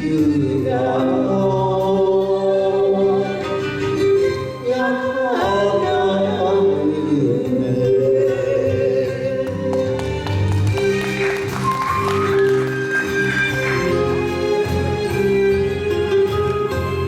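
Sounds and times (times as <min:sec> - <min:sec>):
backing track: 0:00.0 - 0:17.0.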